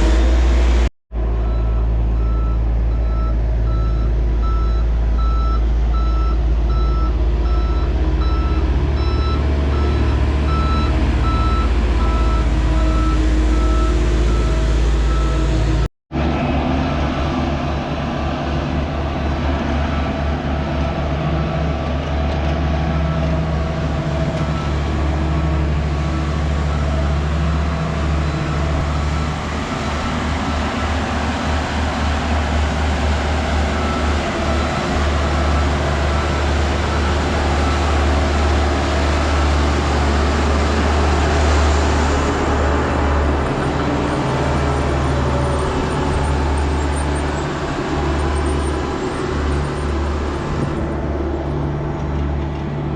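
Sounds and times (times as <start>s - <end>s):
vehicle road rumble: 0.0s - 52.9s.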